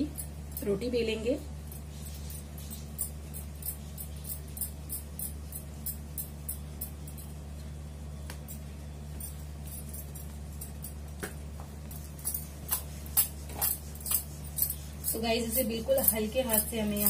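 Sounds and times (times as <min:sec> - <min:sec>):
bangles clinking: 0:00.0 - 0:17.0.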